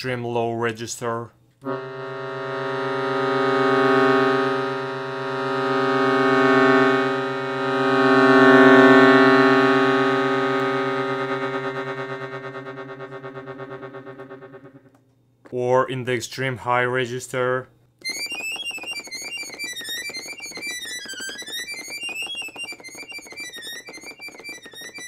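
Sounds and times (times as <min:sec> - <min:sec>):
accordion low notes: 0:01.6 - 0:14.9, 0:18.0 - 0:25.0.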